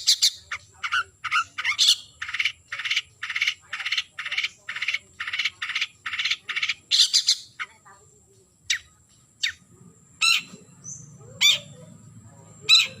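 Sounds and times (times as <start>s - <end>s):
bird harsh rasping calls: 0.0s - 7.8s, 8.6s - 11.9s, 12.5s - 13.0s.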